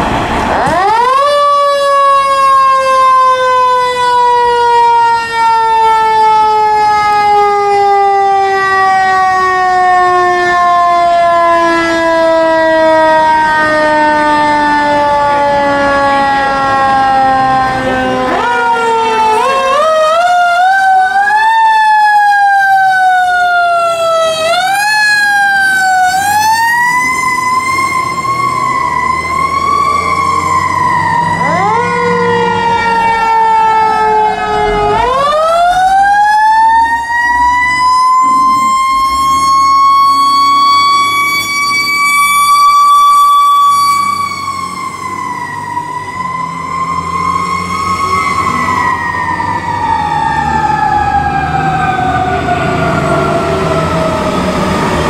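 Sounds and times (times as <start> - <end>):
fire truck siren wailing: 0.0 - 55.0
lower siren: 0.0 - 55.0.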